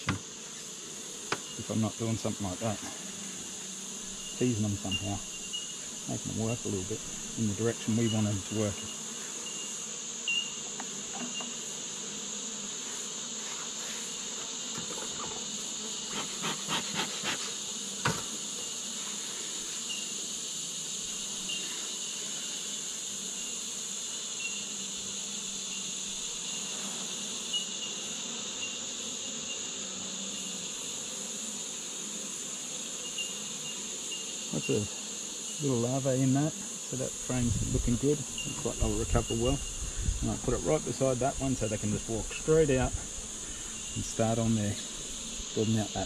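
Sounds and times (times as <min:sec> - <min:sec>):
bees buzzing: 0:00.0 - 0:46.0
insects chirring: 0:00.0 - 0:46.0.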